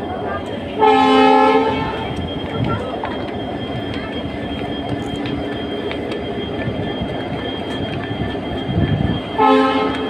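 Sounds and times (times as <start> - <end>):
train rumble and hiss: 0.0 - 10.0.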